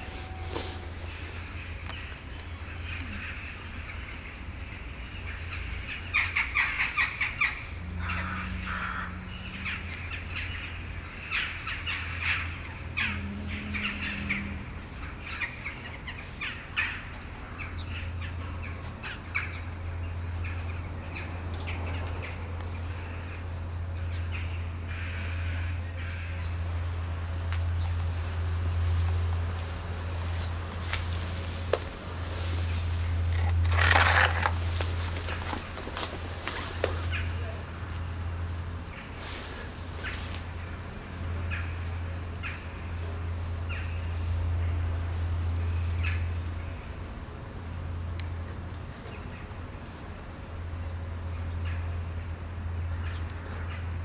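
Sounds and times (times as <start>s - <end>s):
birds harsh calls: 0.0s - 28.0s, 30.0s - 44.8s, 45.5s - 46.5s
steady low hum: 0.0s - 54.0s.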